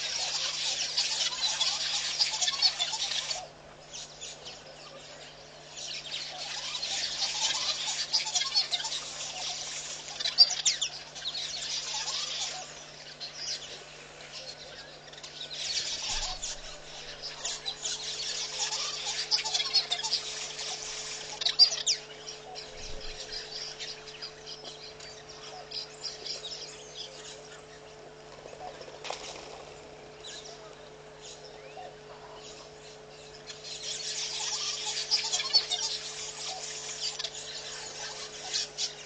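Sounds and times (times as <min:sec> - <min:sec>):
birds chirping and peeping: 0:00.0 - 0:39.0
steady low hum: 0:00.0 - 0:39.0.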